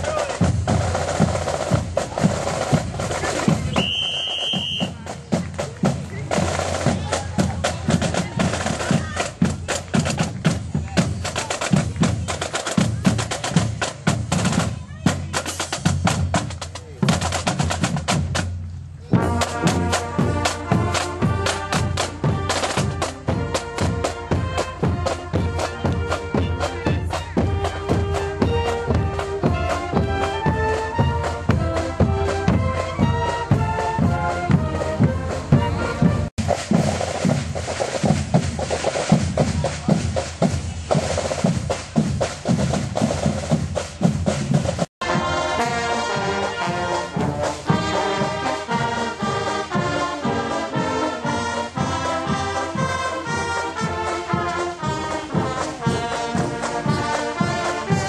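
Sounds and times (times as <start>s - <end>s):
marching band playing: 0.0s - 58.0s.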